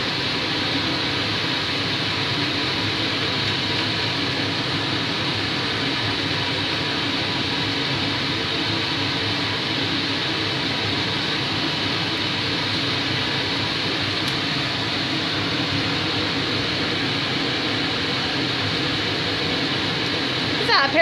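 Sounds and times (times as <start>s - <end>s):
forge fire rushing under blower: 0.0s - 21.0s.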